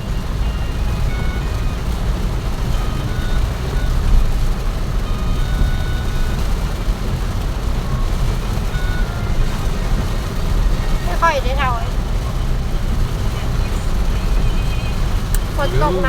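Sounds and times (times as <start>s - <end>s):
rain hiss: 0.0s - 16.0s
vehicle engine and road rumble: 0.0s - 16.0s.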